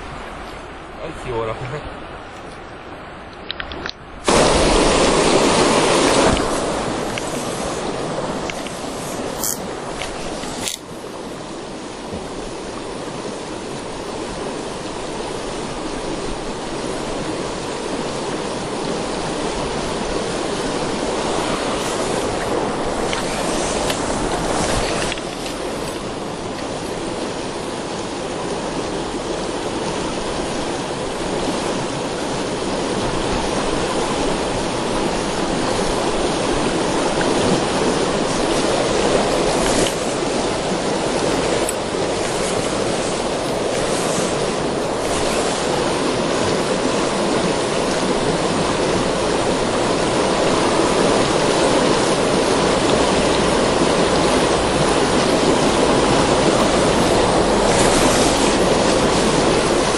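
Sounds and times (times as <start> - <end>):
water rushing over stones: 0.0 - 59.9.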